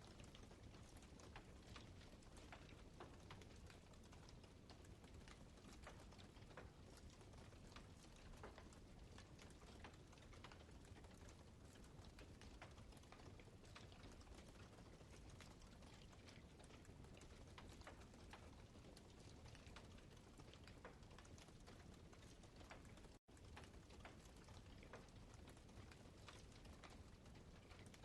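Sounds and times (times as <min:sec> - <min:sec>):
low steady hiss: 0:00.0 - 0:28.0.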